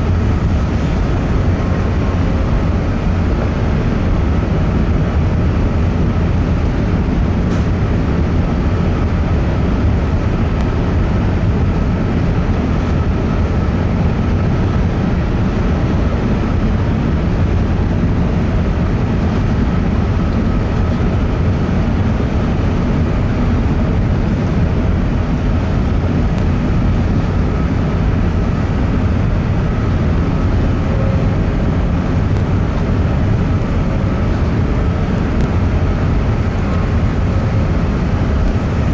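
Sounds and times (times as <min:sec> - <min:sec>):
faint steady whine: 0:00.0 - 0:38.9
ferry engines rumbling: 0:00.0 - 0:38.9.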